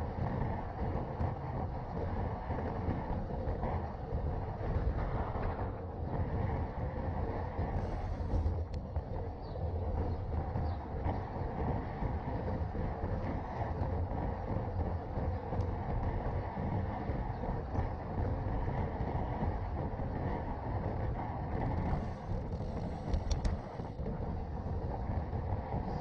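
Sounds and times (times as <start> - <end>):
bike tyres rolling on asphalt: 0.0 - 26.0
wind rushing on microphone: 0.0 - 26.0.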